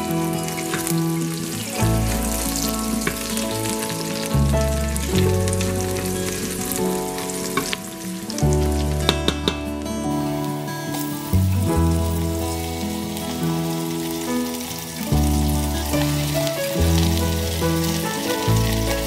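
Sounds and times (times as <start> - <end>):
background music with low notes: 0.0 - 19.0
onions and spices sizzling in oil: 0.0 - 19.0.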